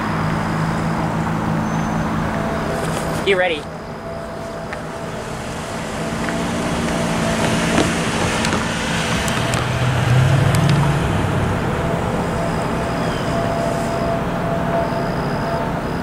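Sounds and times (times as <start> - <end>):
pickup truck passing: 0.0 - 16.0.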